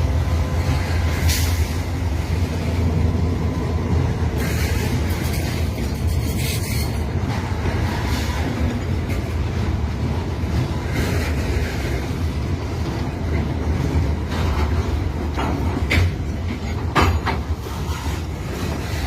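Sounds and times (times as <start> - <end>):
train rumbling past: 0.0 - 19.0
wheels clacking on rail joints: 0.0 - 19.0.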